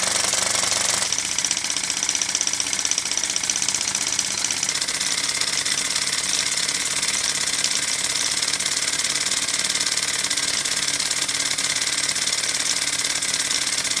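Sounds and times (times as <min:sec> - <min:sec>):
model radial engine running: 0:00.0 - 0:14.0.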